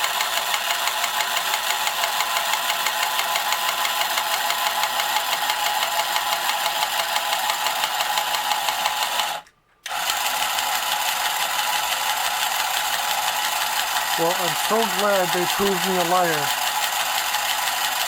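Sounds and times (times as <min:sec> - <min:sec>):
toy helicopter buzzing rattle: 0:00.0 - 0:18.0.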